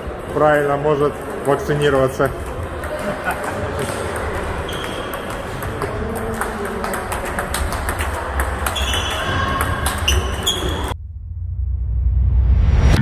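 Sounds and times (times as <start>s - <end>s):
table tennis balls clicking: 0.0s - 10.9s.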